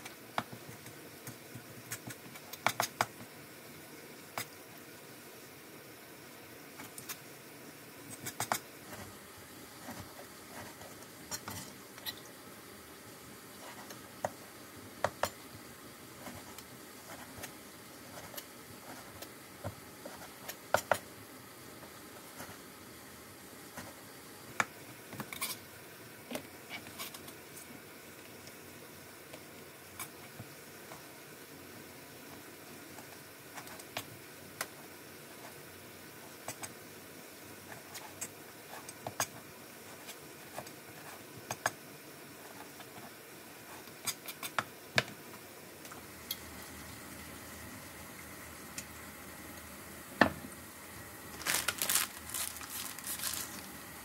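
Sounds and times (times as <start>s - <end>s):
steady low hiss: 0.0s - 54.0s.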